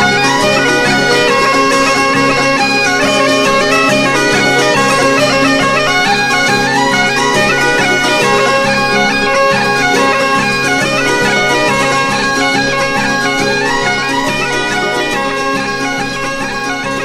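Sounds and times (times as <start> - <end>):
bagpipe music: 0.0 - 17.0.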